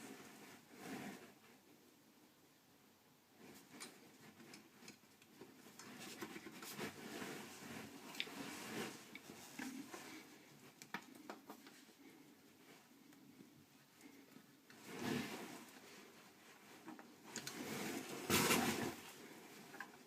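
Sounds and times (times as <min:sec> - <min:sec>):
faint handling clicks and scraping: 0:03.4 - 0:20.0.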